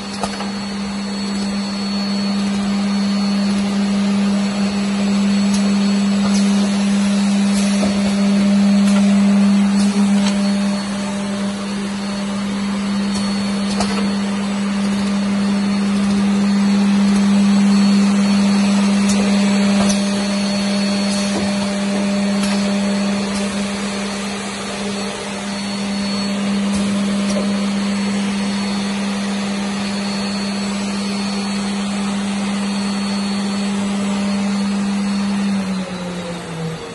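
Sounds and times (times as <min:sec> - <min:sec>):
loud machine hum: 0:00.0 - 0:36.9.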